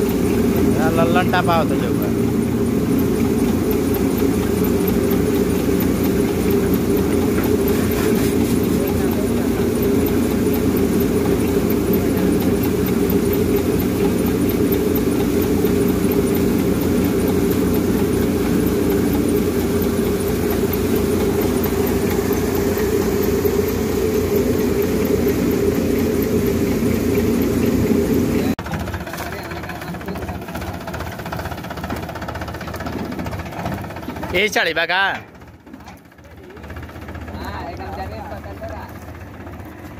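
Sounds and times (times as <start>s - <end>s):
wheat thresher running: 0.0s - 39.9s.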